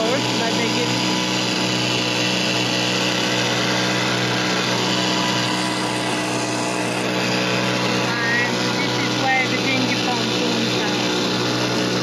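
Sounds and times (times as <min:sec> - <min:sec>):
small outboard motor running: 0:00.0 - 0:12.0.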